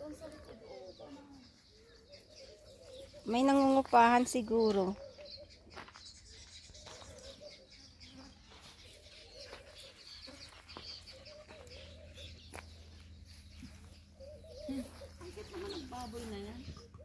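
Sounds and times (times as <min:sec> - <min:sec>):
dove-like cooing: 0:00.0 - 0:17.0.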